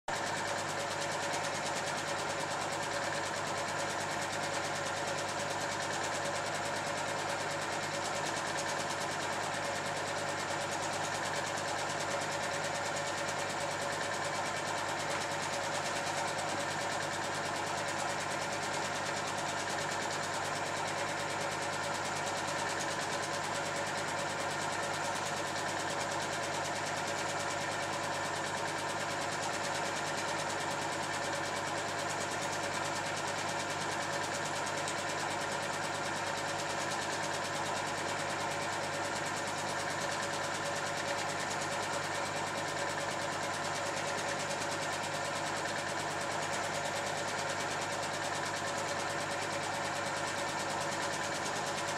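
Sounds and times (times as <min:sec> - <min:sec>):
film projector whirring: 0:00.1 - 0:51.9.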